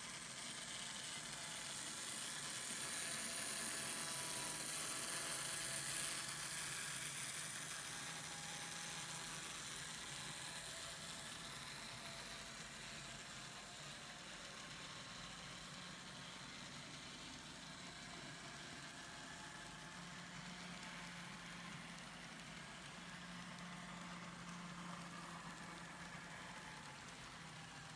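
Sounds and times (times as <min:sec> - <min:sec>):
model train motors and wheels whirring: 0:00.0 - 0:27.9.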